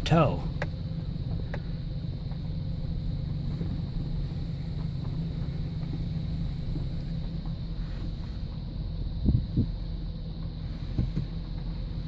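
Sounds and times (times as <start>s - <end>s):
pickup truck engine rumble: 0.0s - 12.0s
road noise: 0.0s - 12.0s.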